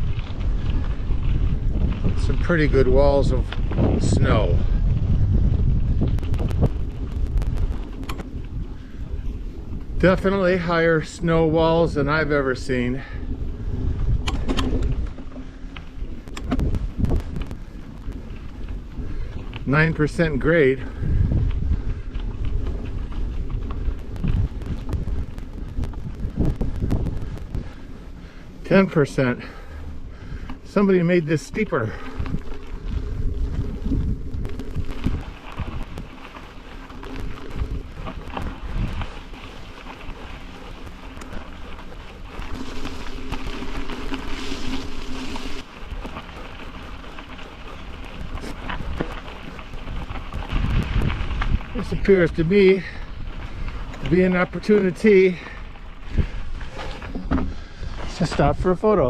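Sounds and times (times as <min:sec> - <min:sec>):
bicycle clicks and rattles: 0:00.0 - 0:59.0
wind buffeting microphone: 0:00.0 - 0:59.0.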